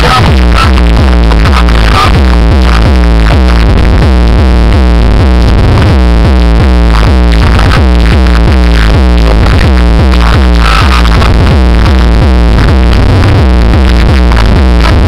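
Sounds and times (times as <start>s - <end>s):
loud electronic music: 0.0s - 15.0s.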